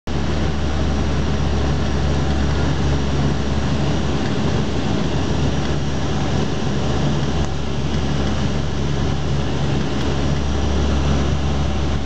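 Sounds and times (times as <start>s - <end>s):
turboprop engines droning: 0.1s - 12.0s.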